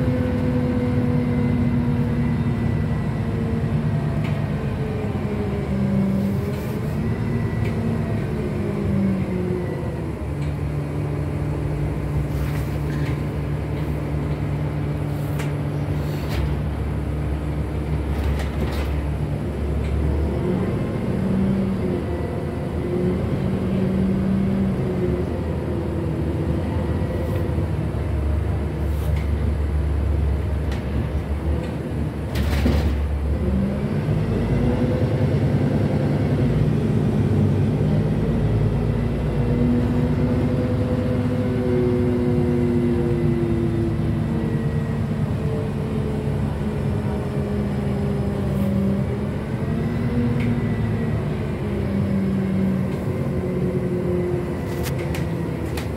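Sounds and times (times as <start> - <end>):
bus engine rumbling: 0.0 - 55.9.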